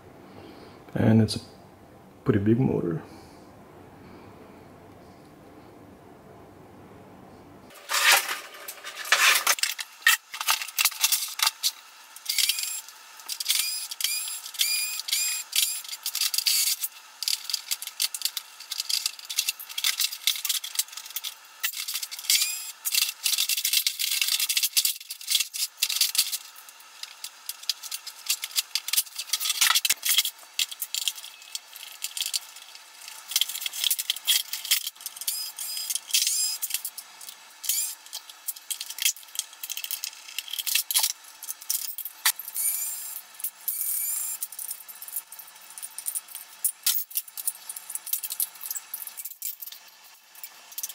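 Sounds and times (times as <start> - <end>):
plastic parts and tools clattering: 7.7 - 42.9, 44.4 - 50.9.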